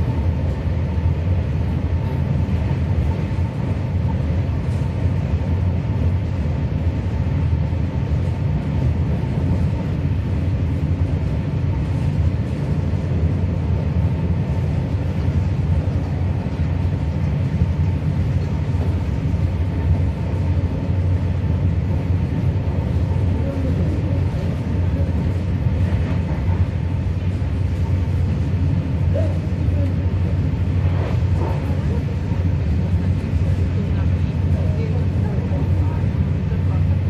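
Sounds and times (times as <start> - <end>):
train running at speed: 0.0 - 37.0.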